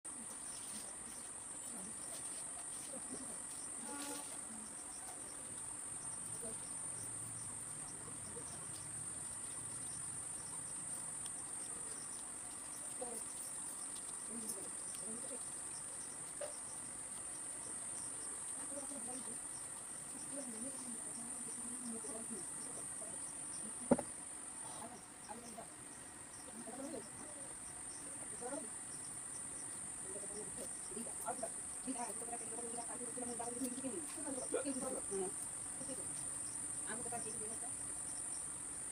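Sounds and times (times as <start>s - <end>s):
crickets trilling: 0.1s - 38.9s.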